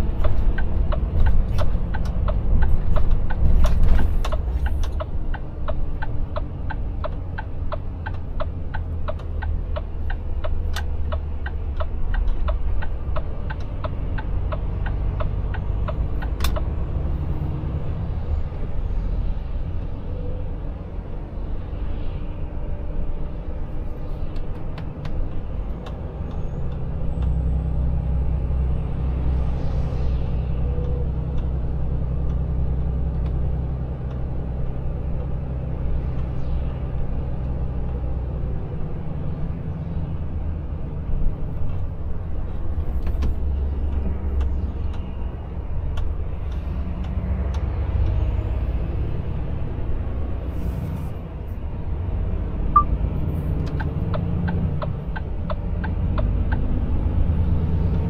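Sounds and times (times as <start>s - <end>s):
truck engine drone: 0.0s - 58.0s.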